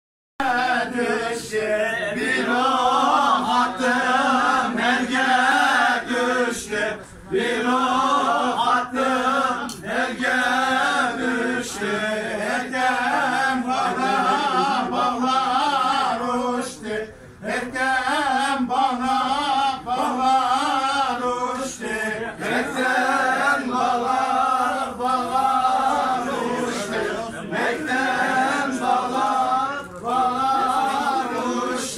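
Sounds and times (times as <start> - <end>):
men singing chant-like folk song: 0.4 - 31.9.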